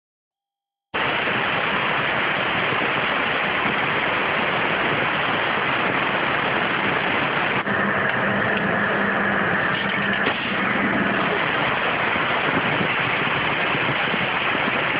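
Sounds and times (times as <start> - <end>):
steady hum: 1.0 - 14.9
water jet cutter hissing: 1.0 - 14.9.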